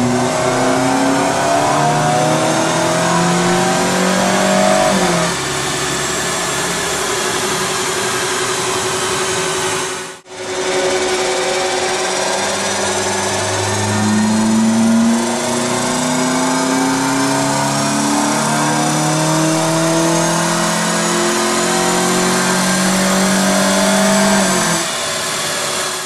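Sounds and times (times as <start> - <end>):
car engine revving hard: 0.0 - 26.0.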